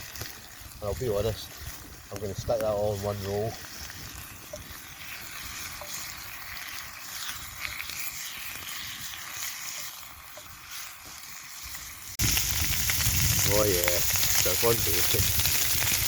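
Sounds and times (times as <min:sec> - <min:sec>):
bacon sizzling in a pan: 0:00.0 - 0:16.0.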